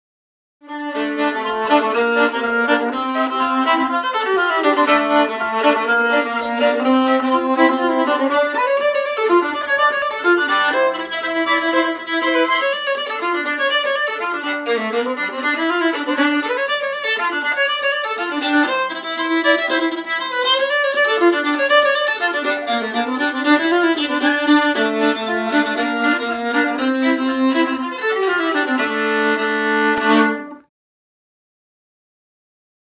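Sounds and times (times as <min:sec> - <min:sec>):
amplified violin playing: 0:00.6 - 0:30.7.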